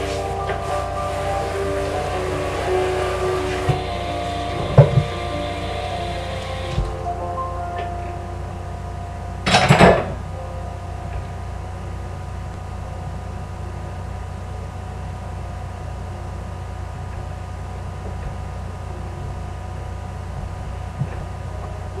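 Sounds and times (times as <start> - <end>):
faint steady tones: 0.0 - 22.0.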